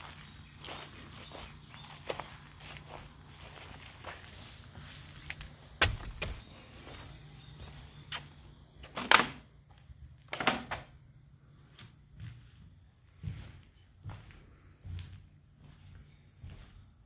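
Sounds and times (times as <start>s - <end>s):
footsteps on hollow wooden deck: 0.0s - 17.0s.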